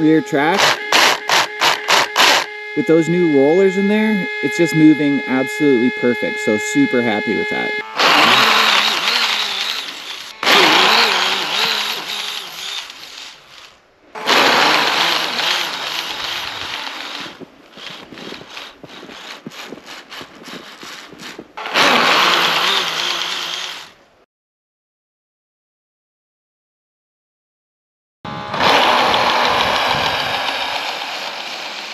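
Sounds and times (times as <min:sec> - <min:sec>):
electric motor whining: 0:00.0 - 0:24.0, 0:28.3 - 0:31.9
track churning through snow: 0:00.0 - 0:24.0, 0:28.3 - 0:31.9.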